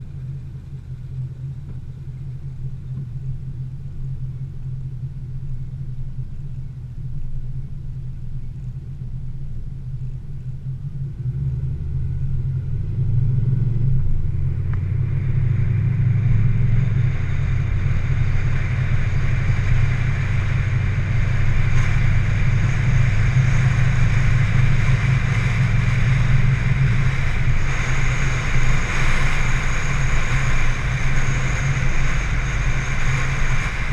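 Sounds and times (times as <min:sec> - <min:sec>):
car engine running: 0:00.0 - 0:33.9.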